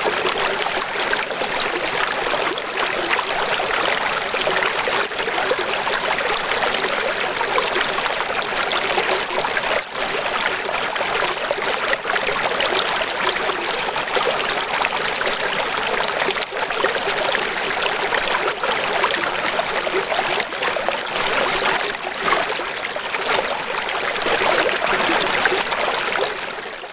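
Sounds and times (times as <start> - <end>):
running water: 0.0 - 26.9.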